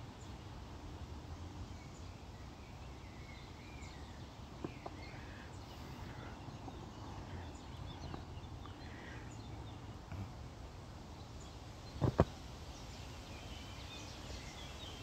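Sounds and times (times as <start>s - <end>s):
birds chirping faintly: 0.0s - 15.0s
outdoor background rush: 0.0s - 15.0s.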